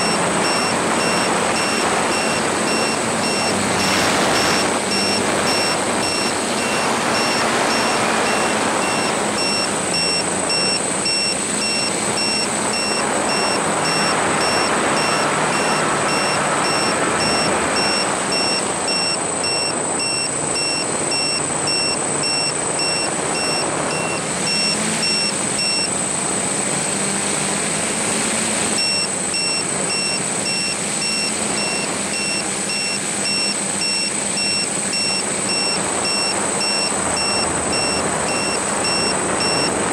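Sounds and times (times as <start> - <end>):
repeating beep: 0.0 - 25.9, 28.8 - 39.9
drone propellers whirring: 0.0 - 39.9.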